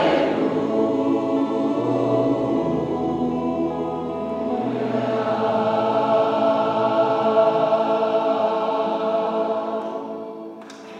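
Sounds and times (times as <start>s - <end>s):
choir singing a sustained chord: 0.0s - 10.9s.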